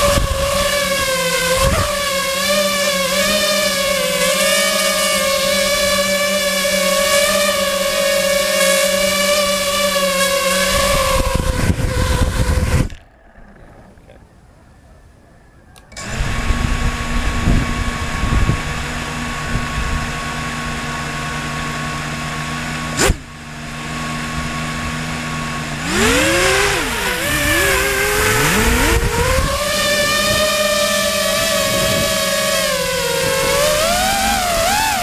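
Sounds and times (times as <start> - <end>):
quadcopter motors whining: 0.0 - 14.4, 15.1 - 35.0.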